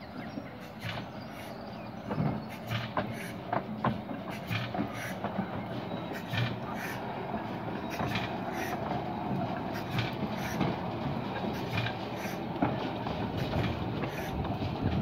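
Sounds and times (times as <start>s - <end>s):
locomotive rolling rumble: 0.0s - 15.0s.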